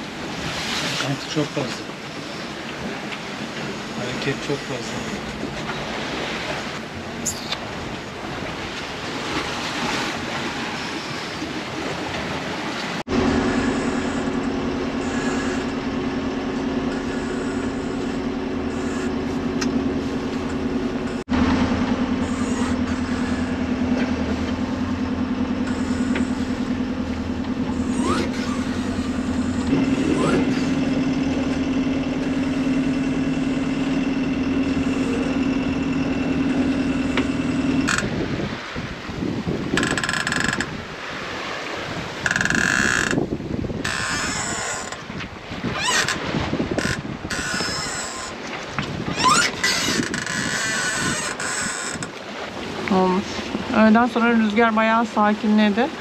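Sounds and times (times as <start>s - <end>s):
boat engine droning: 0.0s - 56.0s
sea rushing: 0.0s - 56.0s
wind: 0.0s - 56.0s.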